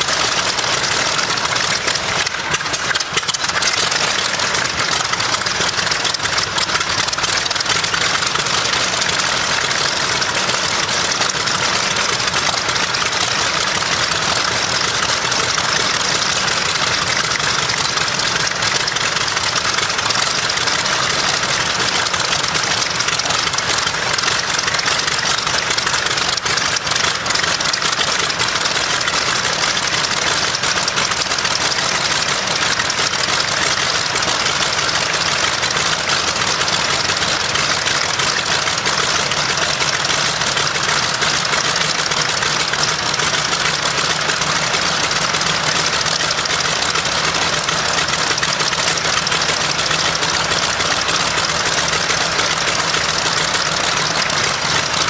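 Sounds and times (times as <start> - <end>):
radial aircraft engine running: 0.0 - 55.0.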